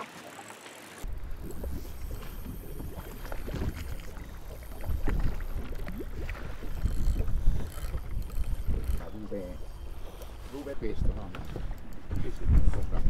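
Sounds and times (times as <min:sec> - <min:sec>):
water splashing against boat: 0:00.0 - 0:13.0
wind buffeting microphone: 0:01.0 - 0:13.0.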